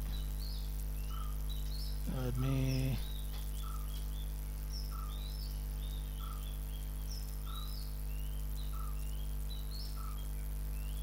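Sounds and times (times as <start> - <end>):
faint bird chirps: 0.0 - 11.0
low electrical hum: 0.0 - 11.0.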